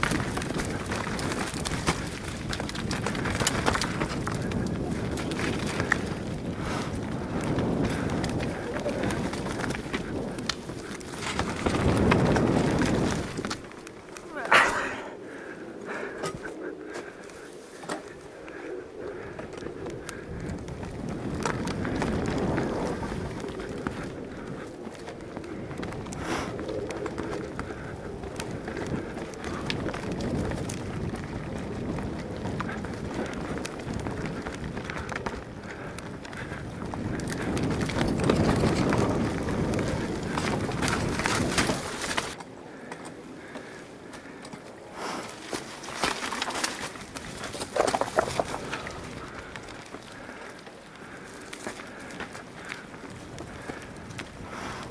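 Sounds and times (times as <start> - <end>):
bike clicks and rattles: 0.0 - 54.9
bike tyres on loose soil: 0.0 - 54.9
wind buffeting microphone: 0.0 - 54.9.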